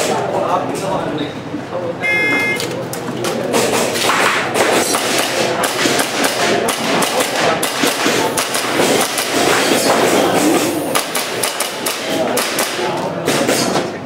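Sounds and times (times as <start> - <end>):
hall background noise: 0.0 - 11.5.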